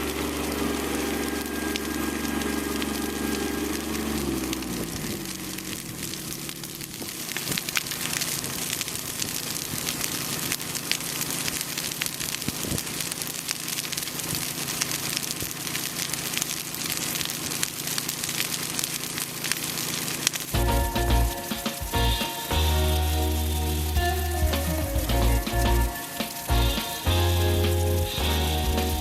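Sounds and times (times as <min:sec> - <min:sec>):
brush fire crackling and popping: 0:00.0 - 0:29.0.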